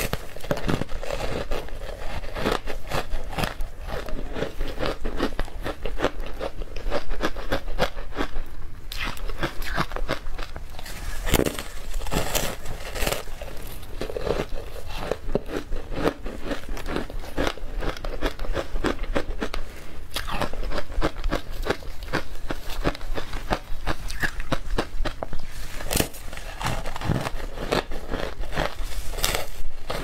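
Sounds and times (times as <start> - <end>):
crunching frozen ice: 0.0 - 30.0.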